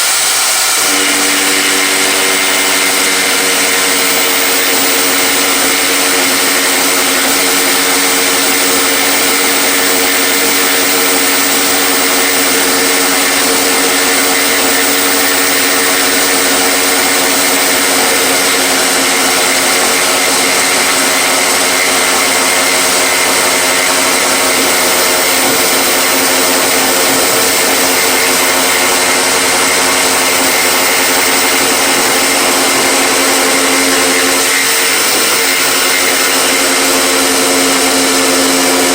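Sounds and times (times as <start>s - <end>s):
power tool motor hissing hum: 0.0s - 38.9s.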